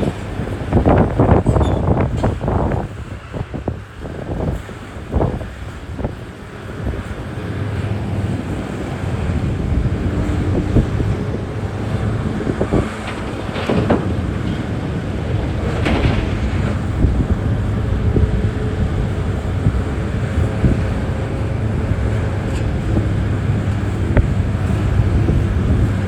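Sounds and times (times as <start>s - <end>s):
heavy diesel machinery rumbling: 0.0s - 26.0s
wind buffeting microphone: 0.0s - 26.0s.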